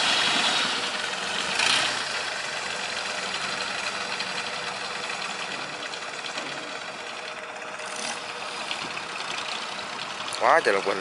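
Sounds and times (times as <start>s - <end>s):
diesel boat engine running: 0.0s - 11.0s.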